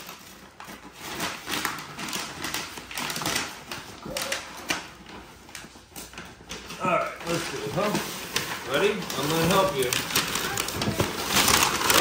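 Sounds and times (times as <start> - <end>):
gift wrap and cardboard rustling: 0.0 - 12.0.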